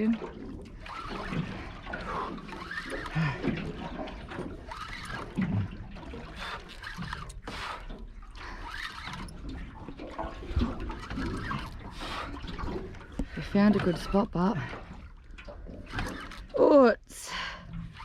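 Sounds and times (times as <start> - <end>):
water lapping against boat hull: 0.0 - 18.0.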